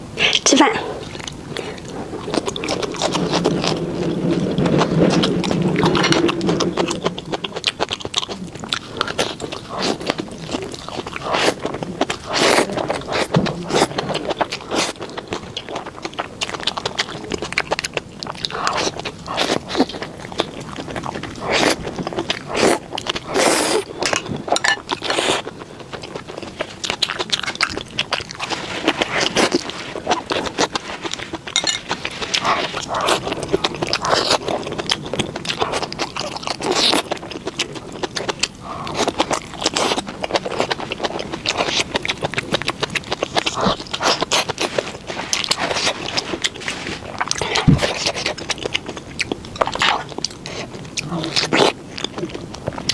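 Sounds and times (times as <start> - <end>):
crunching and chewing: 0.0 - 52.9.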